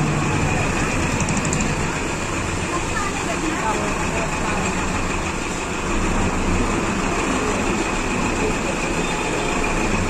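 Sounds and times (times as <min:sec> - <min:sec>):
street traffic noise: 0:00.0 - 0:10.0
vehicle engines running: 0:00.0 - 0:10.0.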